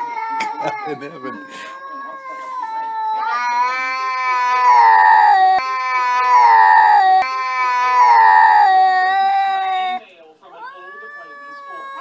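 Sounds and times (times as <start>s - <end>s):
cat yowling: 0.1s - 10.0s, 10.6s - 12.0s.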